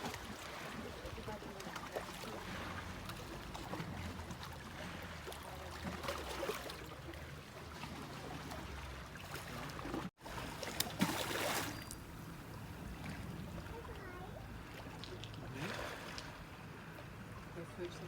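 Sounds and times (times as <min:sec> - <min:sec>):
small waves washing on beach: 0:00.0 - 0:18.0.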